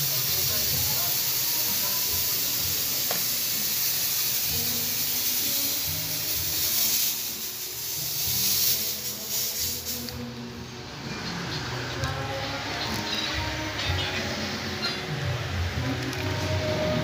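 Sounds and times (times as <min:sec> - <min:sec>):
faint background music with beat: 0:00.0 - 0:17.0
smoke machine hissing: 0:00.0 - 0:17.0.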